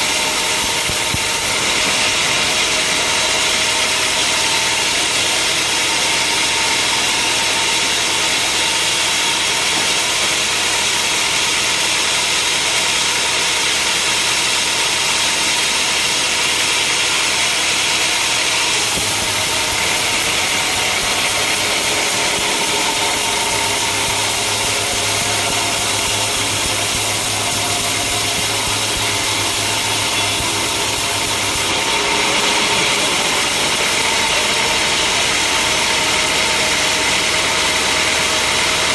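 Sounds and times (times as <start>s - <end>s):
engine running: 0.0s - 38.9s
saw cutting through log: 0.0s - 38.9s.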